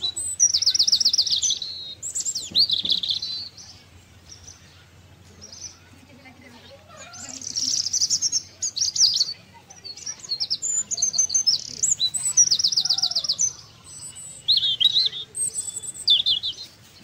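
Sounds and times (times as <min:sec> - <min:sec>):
small birds chirping and trilling: 0:00.0 - 0:17.0.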